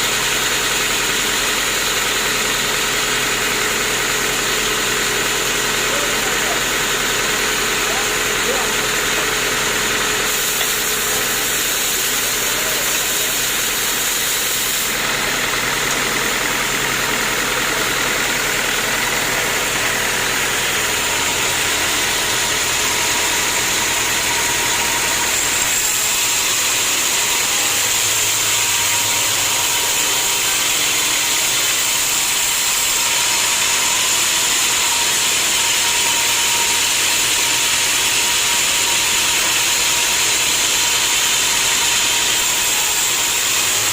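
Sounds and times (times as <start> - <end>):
sawmill machinery running: 0.0 - 43.9.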